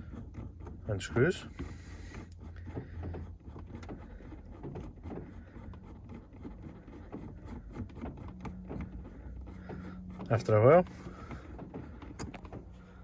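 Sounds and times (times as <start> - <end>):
gear knob clicks and rubbing: 0.0 - 13.0
steady low hum: 0.0 - 13.0.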